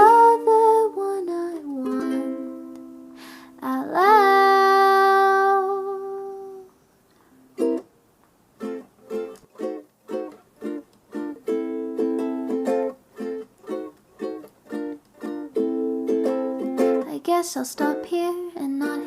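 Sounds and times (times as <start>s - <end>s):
ukulele strumming chords: 0.0s - 6.6s, 7.4s - 7.9s, 8.6s - 19.0s.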